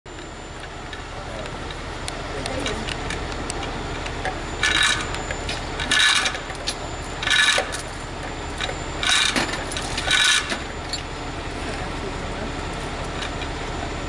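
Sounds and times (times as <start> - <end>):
truck engine running: 0.1 - 14.0.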